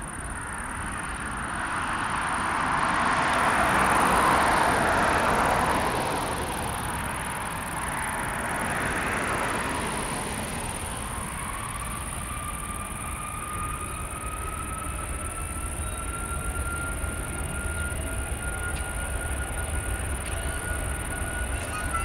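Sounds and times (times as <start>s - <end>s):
jet engine high whine: 0.0s - 22.0s
jet engines low rumble: 0.0s - 22.0s.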